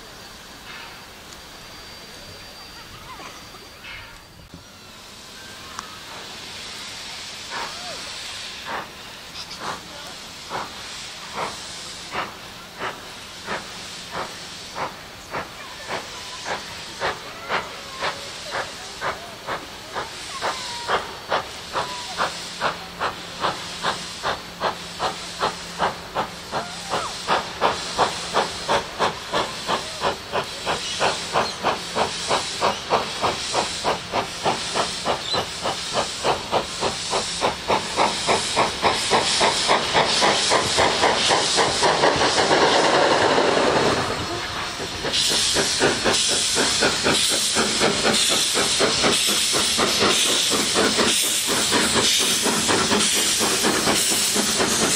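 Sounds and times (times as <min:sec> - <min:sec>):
steam locomotive exhaust chuffs: 0:00.0 - 0:54.9
steam hissing from drain cocks: 0:04.2 - 0:54.9.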